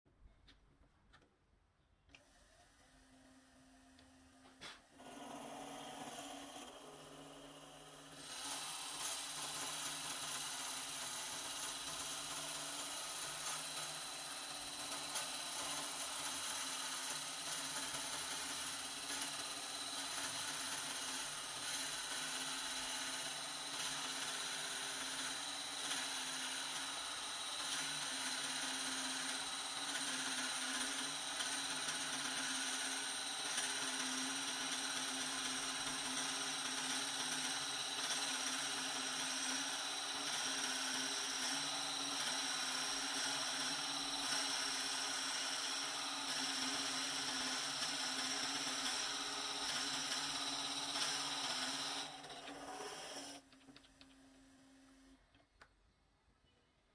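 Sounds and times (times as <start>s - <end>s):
power drill hole saw cutting wood: 2.2s - 53.6s.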